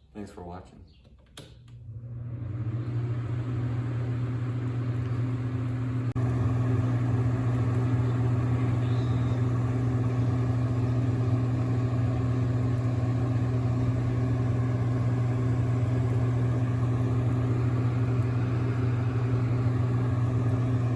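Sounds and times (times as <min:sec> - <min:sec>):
low mechanical hum: 0:00.8 - 0:20.9.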